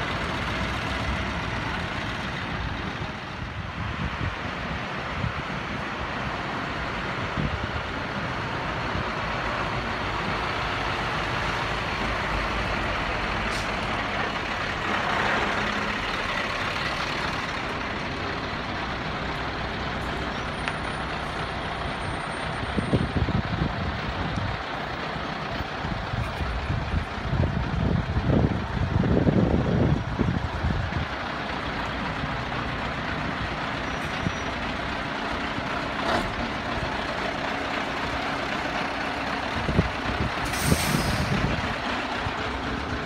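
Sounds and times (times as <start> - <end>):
truck diesel engines passing: 0.0 - 43.0.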